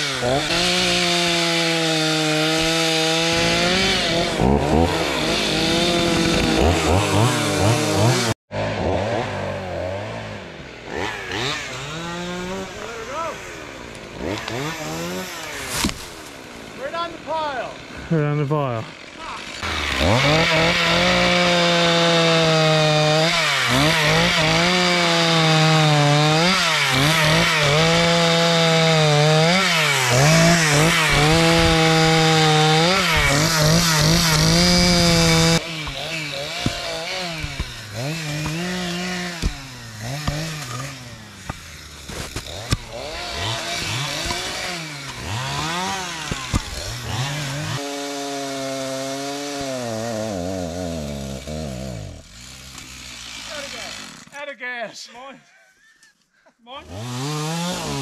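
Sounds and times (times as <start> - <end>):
chainsaw cutting log: 0.0 - 54.5, 56.8 - 58.0.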